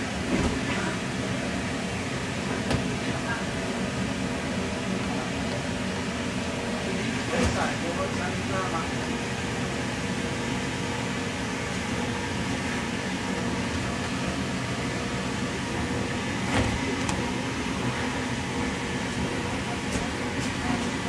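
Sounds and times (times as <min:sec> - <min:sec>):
electric blower fan drone: 0:00.0 - 0:21.0.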